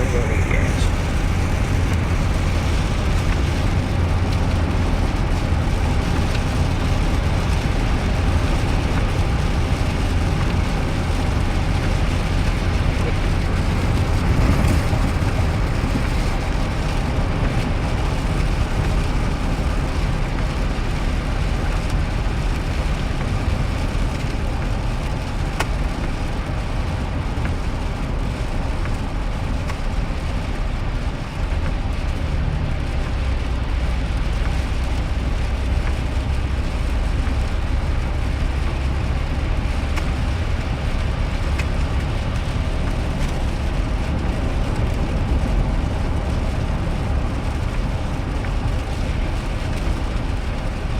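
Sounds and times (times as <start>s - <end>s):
low engine and road rumble: 0.0s - 50.9s
rain and wet tyres hissing: 0.0s - 50.9s.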